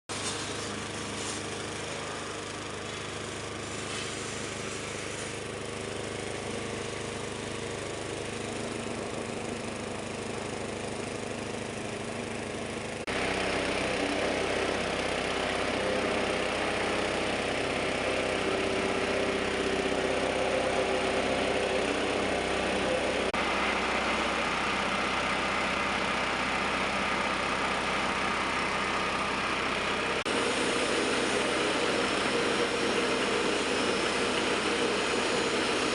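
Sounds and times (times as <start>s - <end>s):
grinding mill engine drone: 0.1s - 35.9s.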